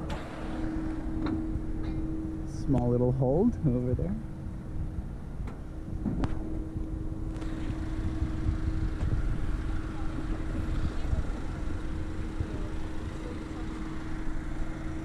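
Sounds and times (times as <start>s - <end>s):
low rumble: 0.0s - 15.0s
steady mechanical hum: 0.0s - 15.0s.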